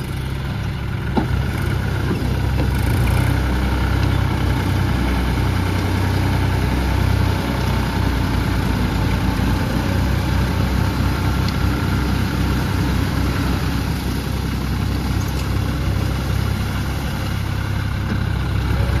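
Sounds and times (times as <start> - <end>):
tractor diesel engines running: 0.0 - 19.0.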